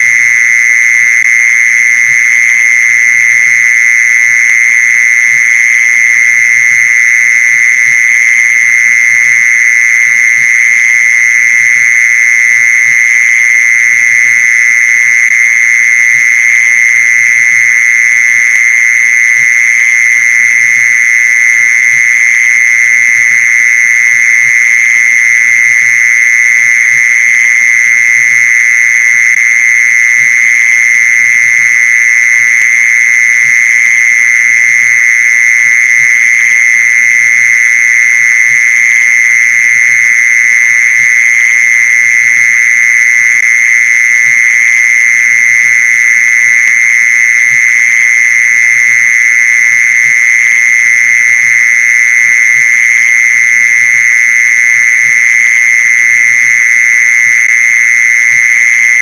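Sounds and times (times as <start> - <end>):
mole cricket trilling: 0.0 - 59.0.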